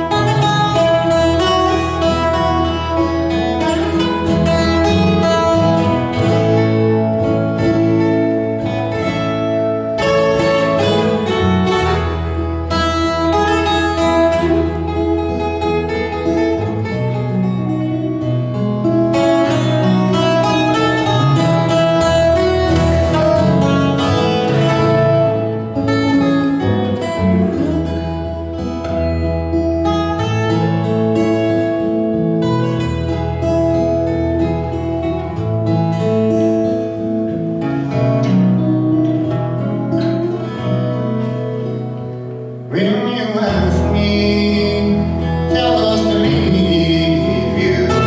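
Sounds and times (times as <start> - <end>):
acoustic guitar folk instrumental: 0.0 - 48.0.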